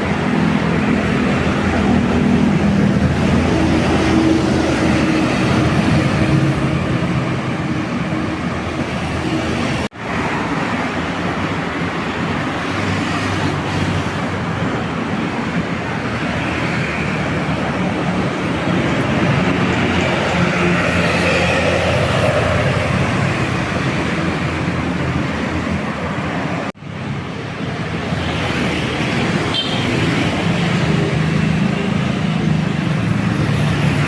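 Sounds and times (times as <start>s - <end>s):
road traffic with buses passing: 0.0s - 34.0s.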